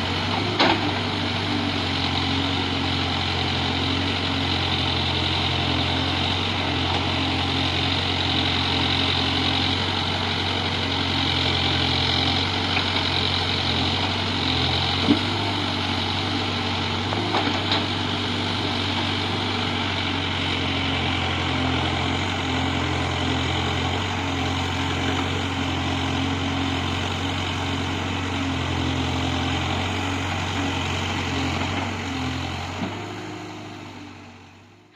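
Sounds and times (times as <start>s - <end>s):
heavy diesel engine idling: 0.0s - 34.9s.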